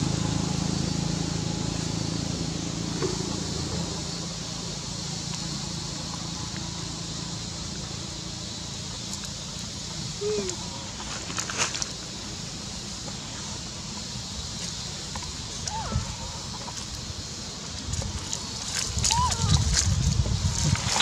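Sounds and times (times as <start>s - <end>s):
steady background hiss: 0.0s - 21.0s
vehicle engine hum: 0.0s - 21.0s.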